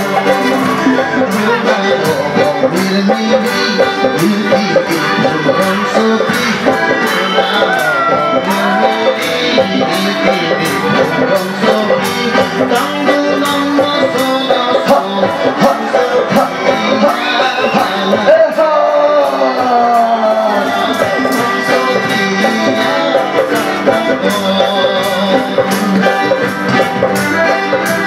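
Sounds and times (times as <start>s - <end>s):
drums keeping steady beat: 0.0s - 28.0s
live band music: 0.0s - 28.0s
man singing through microphone: 0.0s - 28.0s.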